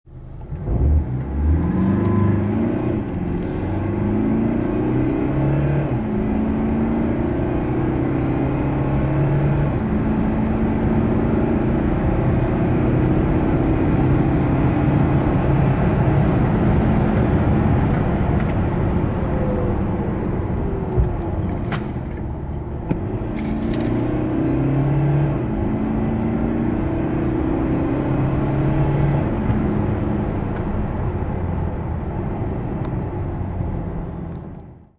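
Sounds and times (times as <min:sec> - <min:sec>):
diesel engine accelerating: 0:00.1 - 0:34.9.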